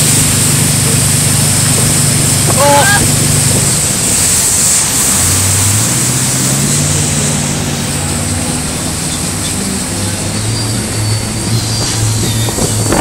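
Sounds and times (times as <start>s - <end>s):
boat engine drone: 0.0s - 13.0s
rushing water: 0.0s - 13.0s
wind: 0.0s - 13.0s.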